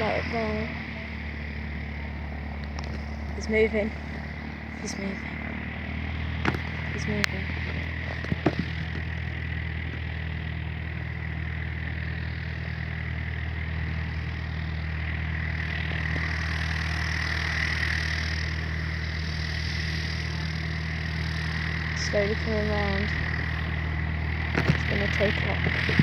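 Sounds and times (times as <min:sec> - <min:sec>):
propeller aircraft engine running: 0:00.0 - 0:26.0.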